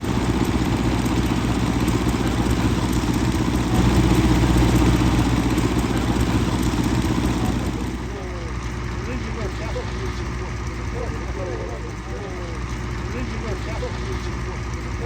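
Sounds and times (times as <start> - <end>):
tractor engine idling fast: 0.0 - 15.0.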